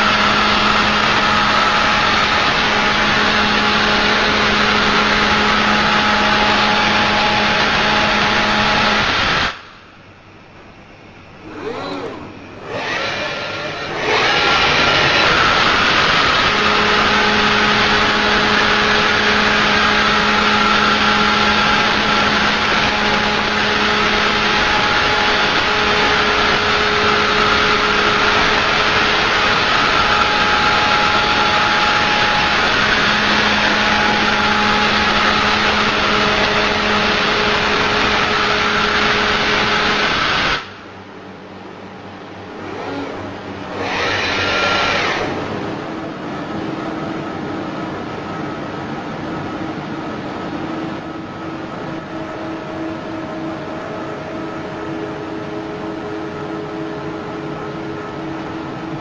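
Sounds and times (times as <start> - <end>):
constant hum: 0.0 - 59.0.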